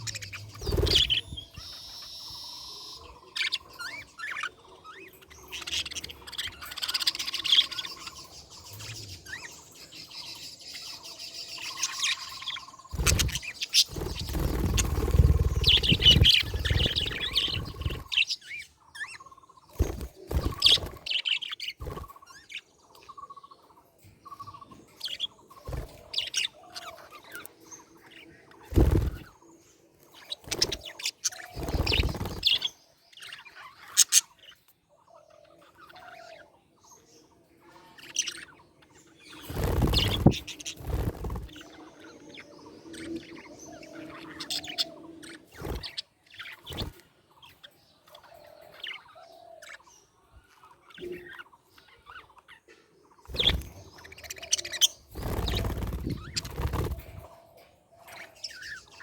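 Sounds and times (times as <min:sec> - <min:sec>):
budgerigars chirping: 0:00.0 - 0:23.6, 0:30.2 - 0:59.0.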